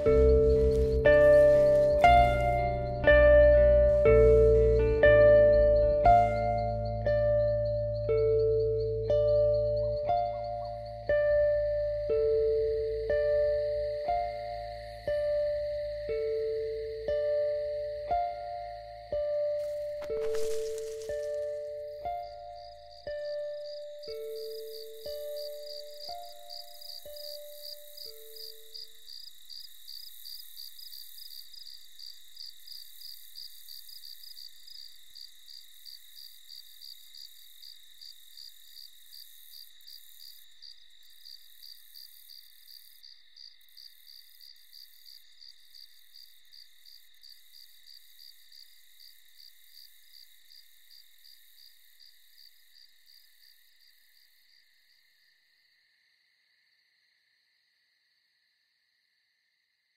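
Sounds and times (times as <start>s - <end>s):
crickets chirping: 0.0s - 59.9s
high insect hum: 0.0s - 59.9s.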